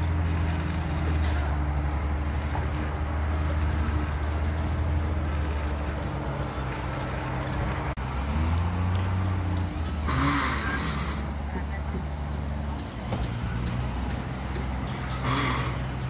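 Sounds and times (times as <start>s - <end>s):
construction machinery engine drone: 0.0s - 16.0s.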